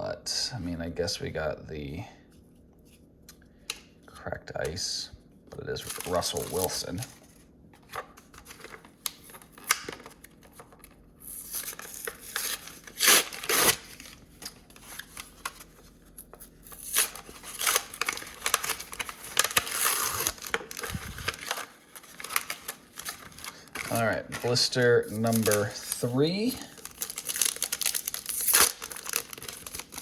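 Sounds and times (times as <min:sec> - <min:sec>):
card packaging tearing and crinkling: 0:05.7 - 0:30.0.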